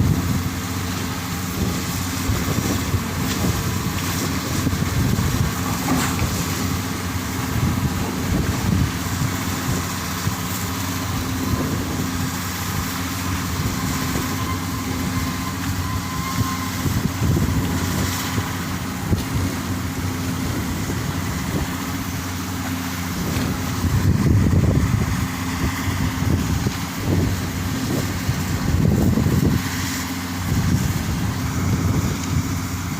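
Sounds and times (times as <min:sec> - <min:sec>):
ferry engines humming: 0:00.0 - 0:32.9
wind rumble on microphone: 0:00.0 - 0:32.9.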